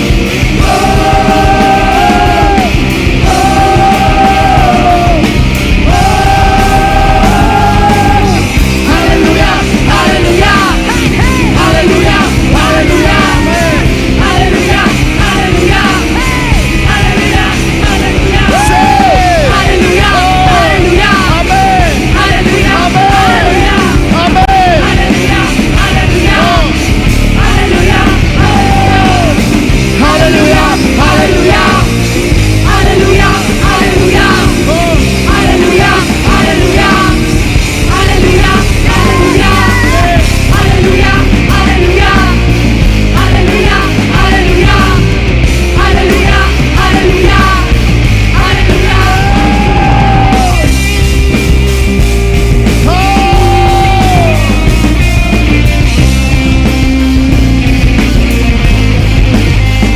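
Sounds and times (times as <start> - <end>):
worship band playing rock music: 0.0 - 59.9.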